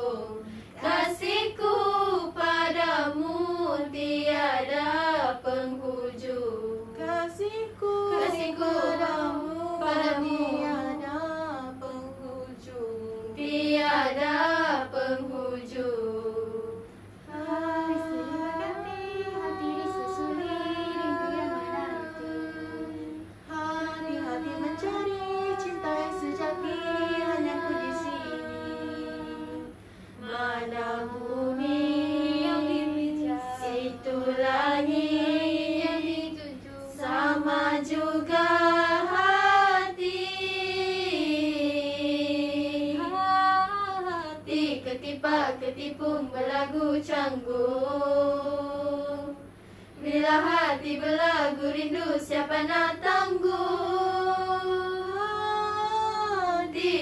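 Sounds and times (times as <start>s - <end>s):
female voices singing a cappella: 0.0s - 57.0s.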